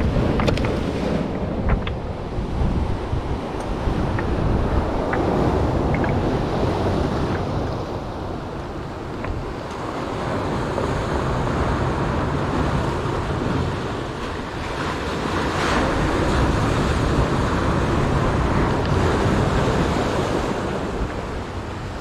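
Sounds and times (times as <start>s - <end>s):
surf washing among boulders: 0.0s - 22.0s
wind on microphone: 0.0s - 22.0s.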